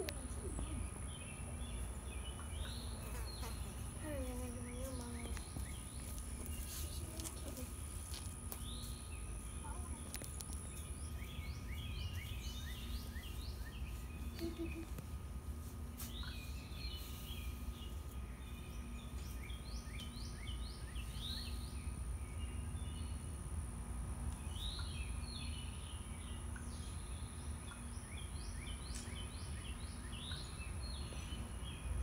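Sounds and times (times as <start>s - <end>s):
birds chirping: 0.0s - 23.6s, 24.2s - 32.0s
low outdoor rumble: 0.0s - 32.0s.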